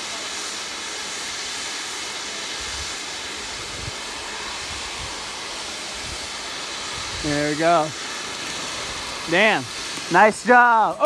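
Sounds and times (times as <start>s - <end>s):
rushing wind hiss: 0.0s - 11.0s.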